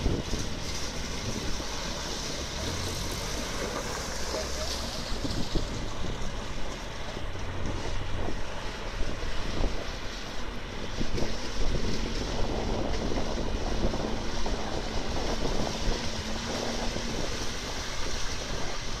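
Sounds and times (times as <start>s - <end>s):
river current rushing: 0.0s - 19.0s
truck engine hum: 0.0s - 19.0s
wheels splashing through water: 0.0s - 19.0s
wind on microphone: 0.0s - 19.0s.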